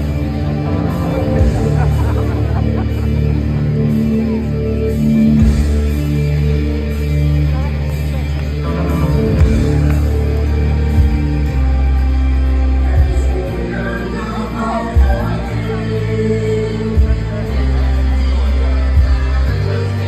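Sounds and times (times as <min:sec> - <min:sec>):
rock music with singing: 0:00.0 - 0:20.0.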